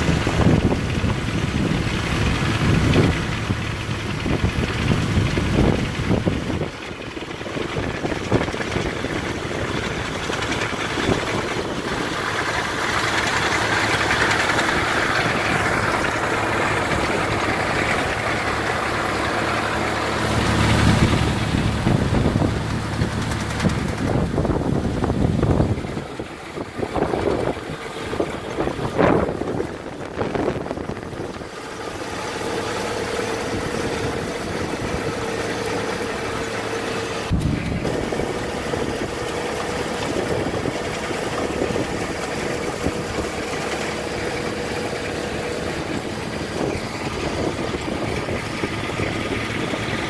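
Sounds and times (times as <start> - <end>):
harvester machine humming: 0.0 - 50.0
wind buffeting microphone: 0.0 - 50.0.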